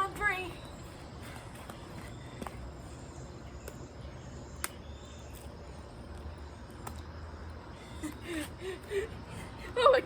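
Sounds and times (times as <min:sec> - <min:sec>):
outdoor background rumble: 0:00.0 - 0:10.0.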